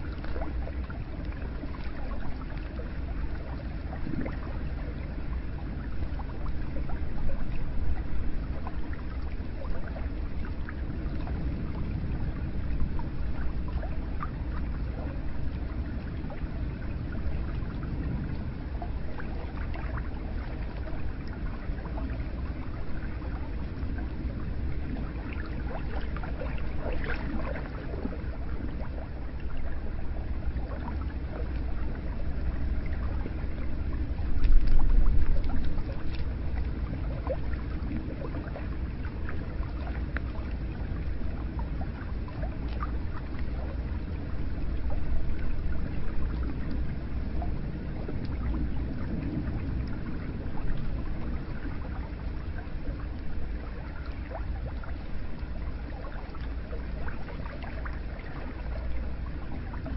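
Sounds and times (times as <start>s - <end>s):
small splashes and drips: 0.0s - 59.9s
water flowing and trickling: 0.0s - 59.9s.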